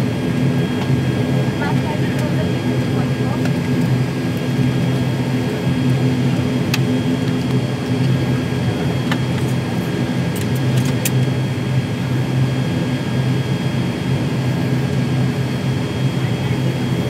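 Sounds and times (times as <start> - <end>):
turboprop engine drone in cabin: 0.0 - 17.0.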